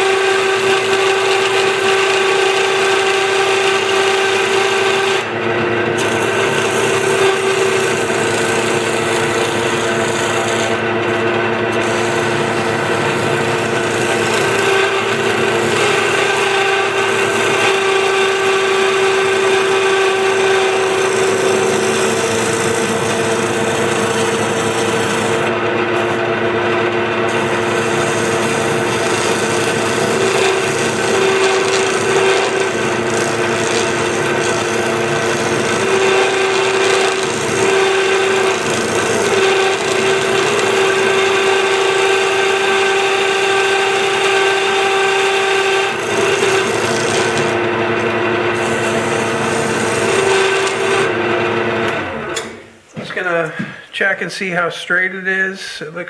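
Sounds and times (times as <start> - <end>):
chisel scraping wood on lathe: 0.0 - 52.5
wood lathe humming: 0.0 - 52.6.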